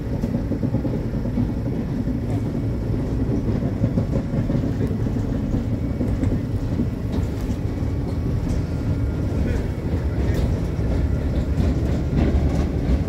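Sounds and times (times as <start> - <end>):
rail vehicle engine rumbling: 0.0 - 13.0.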